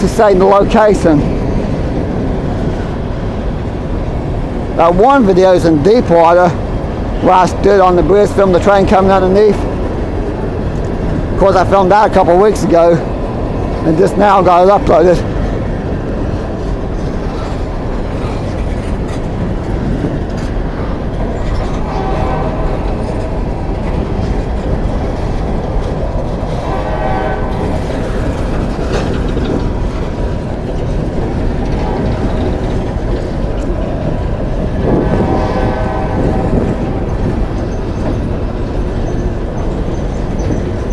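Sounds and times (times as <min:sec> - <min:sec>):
train rumbling past: 0:00.0 - 0:40.9
wheels clattering on rails: 0:00.0 - 0:40.9.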